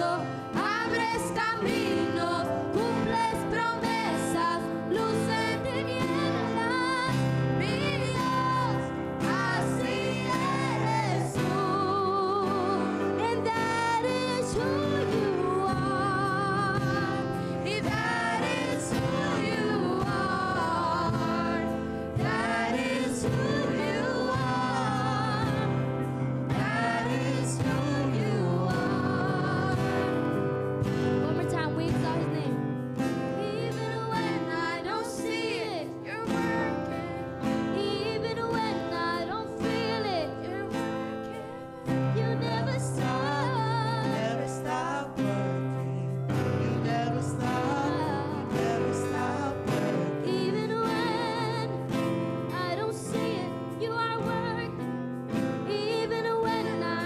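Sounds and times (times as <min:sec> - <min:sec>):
voices singing with vibrato: 0:00.0 - 0:57.0.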